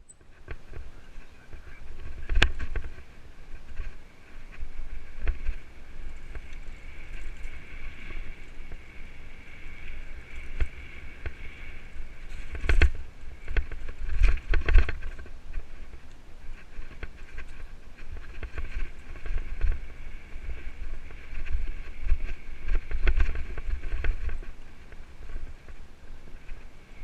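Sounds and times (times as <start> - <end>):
wind: 0.0 - 27.0
bike rattling and knocking: 1.6 - 25.8.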